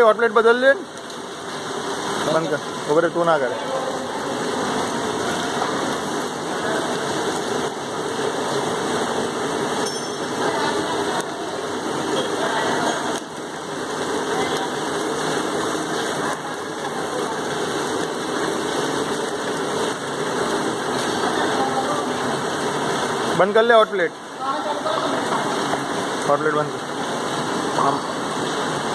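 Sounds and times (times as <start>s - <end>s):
extrusion line machinery noise: 0.0s - 28.9s.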